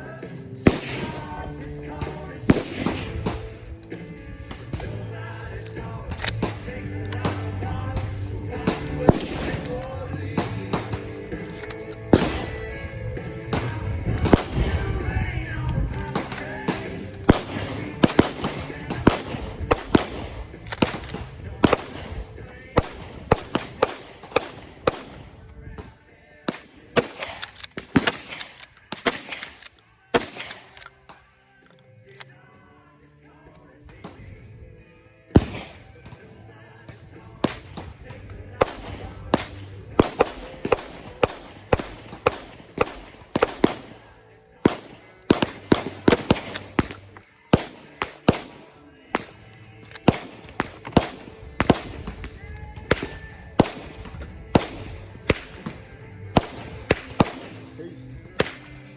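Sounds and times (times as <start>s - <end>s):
gunshots with echo: 0.0s - 25.9s, 26.5s - 30.8s, 35.3s - 36.3s, 37.4s - 58.9s
shotgun shots: 0.0s - 25.9s, 26.5s - 31.2s, 35.3s - 36.3s, 37.4s - 58.9s
music: 0.0s - 58.9s
sharp cracks: 0.6s - 25.9s, 26.5s - 31.2s, 35.4s - 36.2s, 37.4s - 58.9s.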